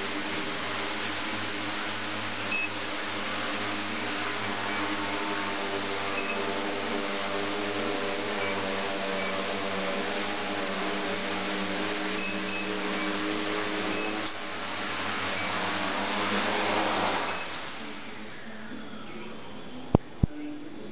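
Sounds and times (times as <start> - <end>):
quadcopter propellers whirring: 0.0 - 19.1.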